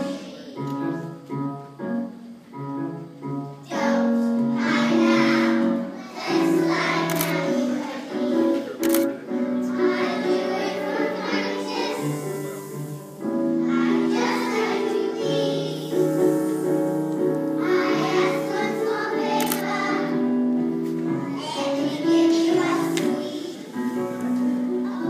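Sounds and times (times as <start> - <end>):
children singing: 0.0 - 1.0, 3.7 - 25.0
instrumental accompaniment: 0.0 - 25.0.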